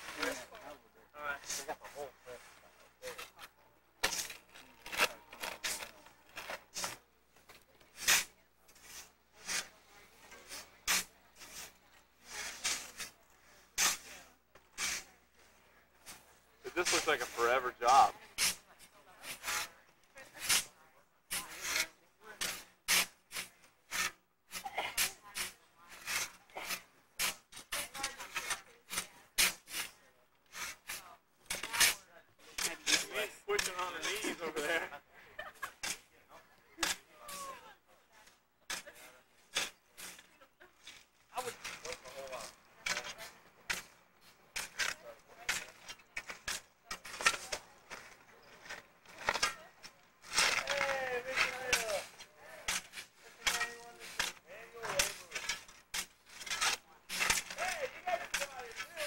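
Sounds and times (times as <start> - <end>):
shovels scraping sand: 0.0 - 59.0.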